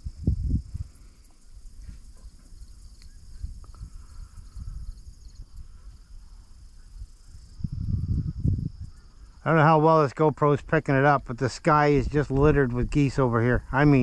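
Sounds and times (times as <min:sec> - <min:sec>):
wind rumble on microphone: 0:00.0 - 0:09.4, 0:10.6 - 0:14.0
high insect trill: 0:00.0 - 0:14.0.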